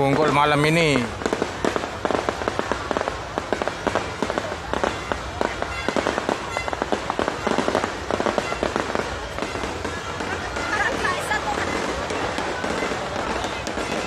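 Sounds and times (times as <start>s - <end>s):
fireworks cracking and popping: 0.0s - 14.0s.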